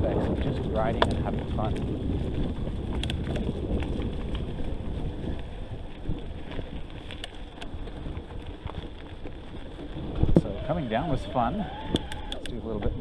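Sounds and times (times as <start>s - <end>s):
bike clicks and rattles: 0.0s - 13.0s
wind buffeting microphone: 0.0s - 13.0s.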